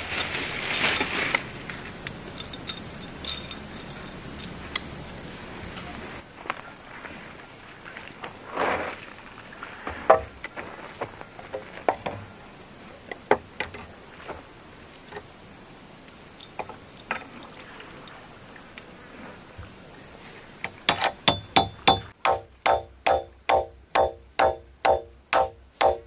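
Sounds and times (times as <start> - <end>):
faint steady background noise: 0.0 - 26.0.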